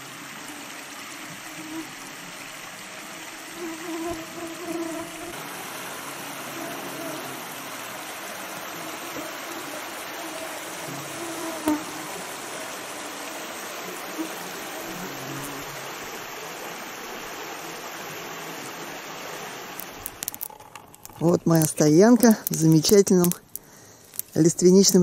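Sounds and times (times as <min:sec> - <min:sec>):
river rushing over gravel: 0:00.0 - 0:25.0
buzzing insect: 0:03.5 - 0:07.8, 0:08.5 - 0:24.5.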